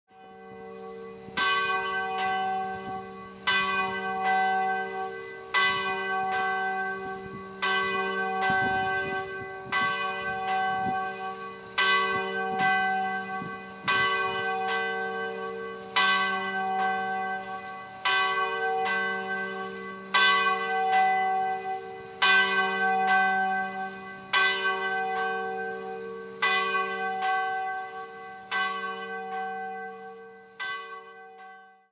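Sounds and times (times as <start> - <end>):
tower bells pealing: 0.1 - 31.9.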